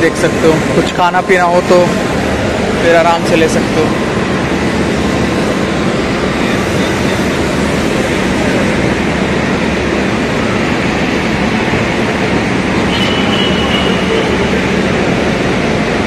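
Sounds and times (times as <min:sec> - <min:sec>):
busy station crowd din: 0:00.0 - 0:16.0.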